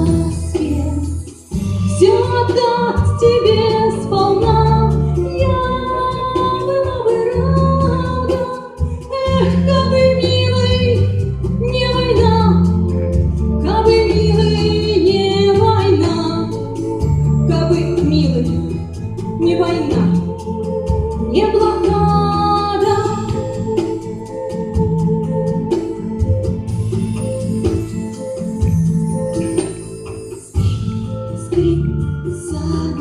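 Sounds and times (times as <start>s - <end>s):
woman singing: 0.0s - 13.0s, 13.6s - 26.3s, 31.4s - 33.0s
instrumental accompaniment with bass: 0.0s - 33.0s.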